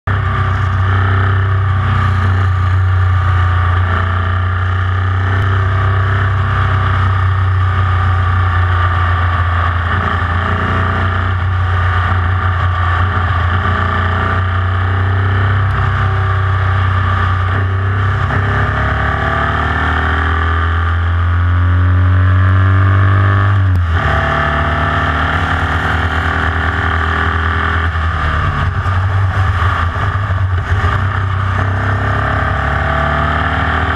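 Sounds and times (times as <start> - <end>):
engine running hard: 0.0 - 33.9.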